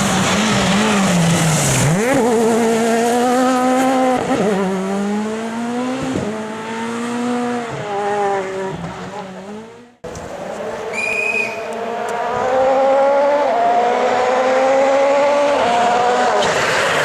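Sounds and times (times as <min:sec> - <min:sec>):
rally car engine pulling hard: 0:00.0 - 0:17.0.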